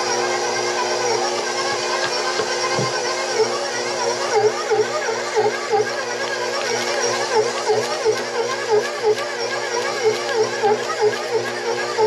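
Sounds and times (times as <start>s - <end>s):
stand mixer kneading dough: 0.0s - 12.0s.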